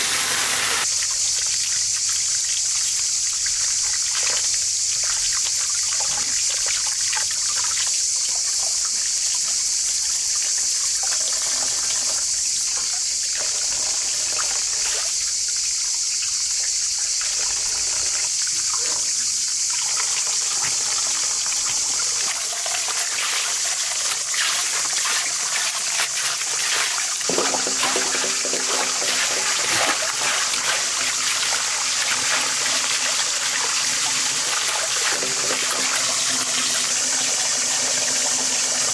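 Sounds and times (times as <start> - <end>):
splashing of vegetables rinsed: 0.0 - 38.9
tap water running into basin: 0.0 - 38.9.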